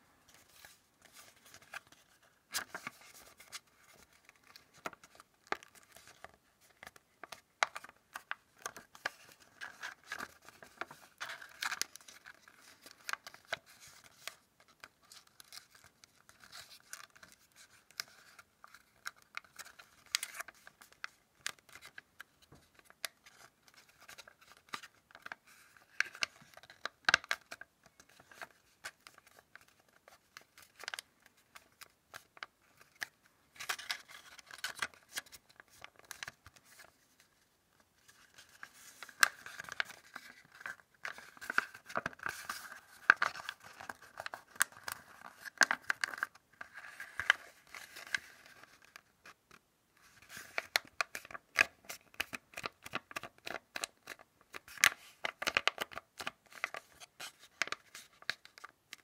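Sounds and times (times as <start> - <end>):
paper rustling and crackling: 0.3 - 37.4, 38.0 - 59.0.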